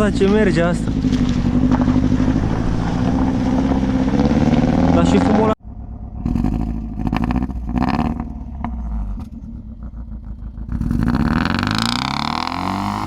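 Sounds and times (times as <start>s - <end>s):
car engine running rough: 0.0s - 13.0s.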